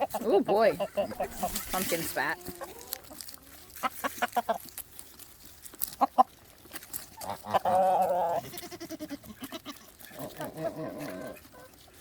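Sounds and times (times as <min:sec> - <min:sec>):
chickens clucking: 0:00.0 - 0:04.9, 0:05.8 - 0:12.0.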